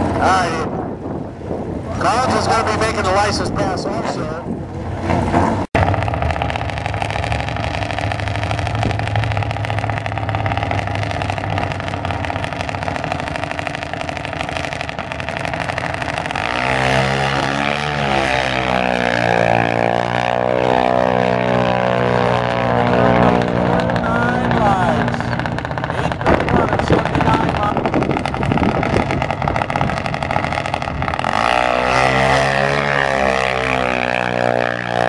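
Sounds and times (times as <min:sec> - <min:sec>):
drag racing engine running: 0:04.9 - 0:35.0
vehicle launching with sweeping engine: 0:04.9 - 0:35.0.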